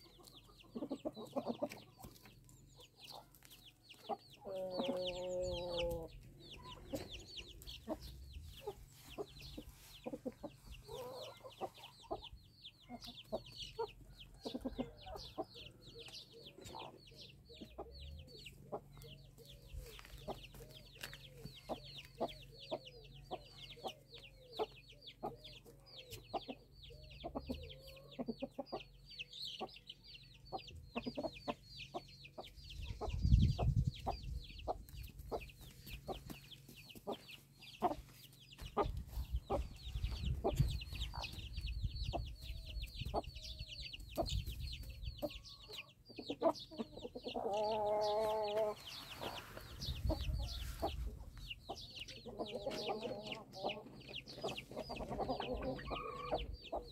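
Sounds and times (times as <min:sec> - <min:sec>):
hens clucking: 0:00.0 - 0:29.0, 0:30.5 - 0:43.3, 0:45.2 - 0:56.9
chicks peeping: 0:00.0 - 0:56.9.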